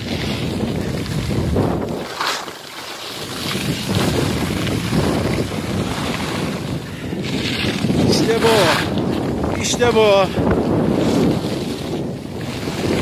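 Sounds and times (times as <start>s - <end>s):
wind buffeting microphone: 0.0s - 2.3s, 3.2s - 13.0s
skis scraping over snow: 0.0s - 13.0s.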